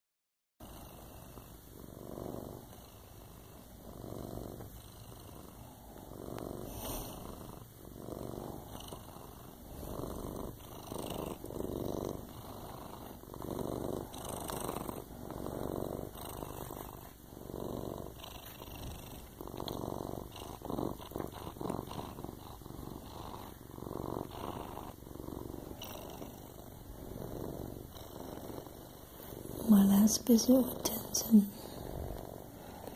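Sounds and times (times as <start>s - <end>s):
cat purring: 0.6s - 32.9s.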